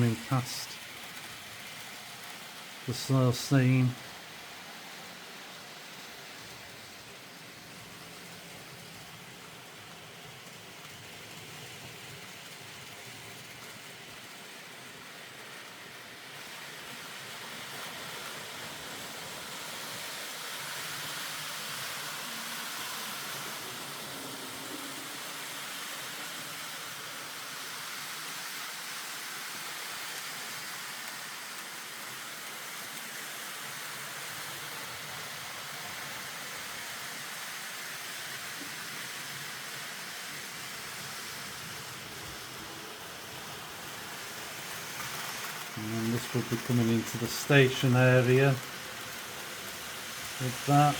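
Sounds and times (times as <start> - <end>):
model train running on track: 0.0 - 50.9.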